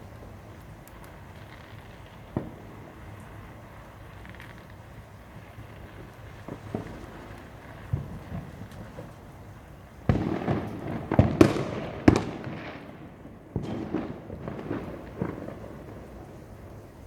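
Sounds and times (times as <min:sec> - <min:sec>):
fireworks bangs with echo: 0:01.4 - 0:17.0.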